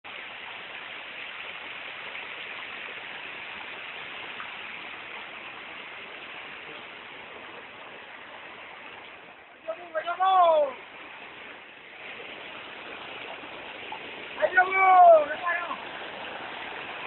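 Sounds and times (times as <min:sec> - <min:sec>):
stream rushing over boulders: 0:00.0 - 0:17.0.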